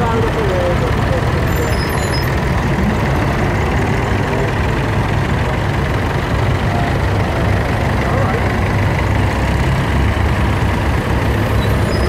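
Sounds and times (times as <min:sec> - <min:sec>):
tractor engines running: 0:00.0 - 0:12.0.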